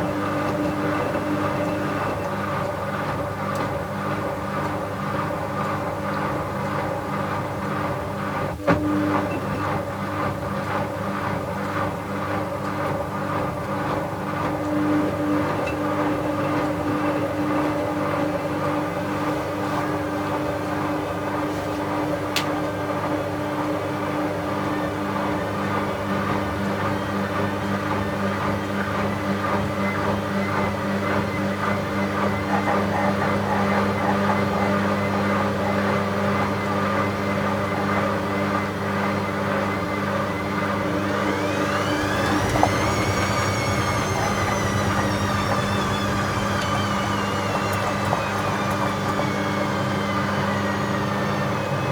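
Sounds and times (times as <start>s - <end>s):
washing machine motor hum: 0.0s - 51.9s.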